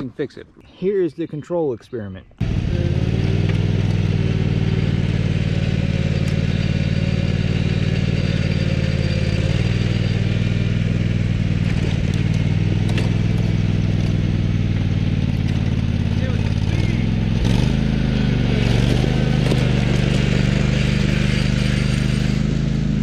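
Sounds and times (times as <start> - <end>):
riding mower engine running: 2.4 - 23.0.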